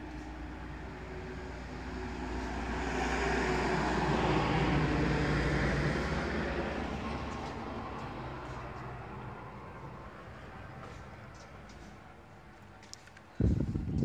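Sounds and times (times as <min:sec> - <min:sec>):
vehicle passing: 0:00.0 - 0:12.9.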